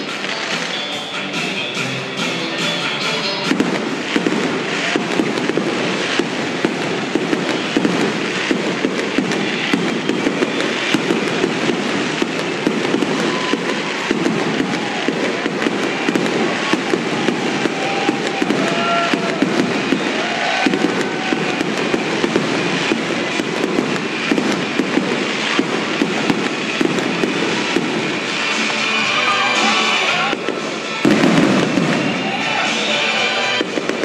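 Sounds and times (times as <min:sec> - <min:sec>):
fireworks bangs and pops: 0:00.0 - 0:34.0
fireworks crackling: 0:00.0 - 0:34.0
fireworks whistling: 0:00.0 - 0:34.0.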